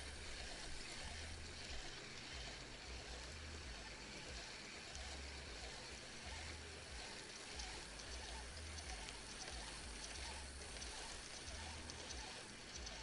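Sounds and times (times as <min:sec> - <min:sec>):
steady soft hiss: 0:00.0 - 0:13.0.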